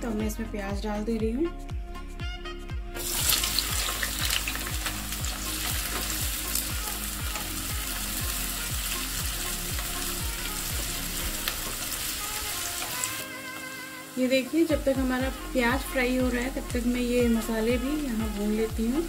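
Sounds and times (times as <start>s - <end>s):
onions sizzling in hot oil: 3.0s - 19.0s.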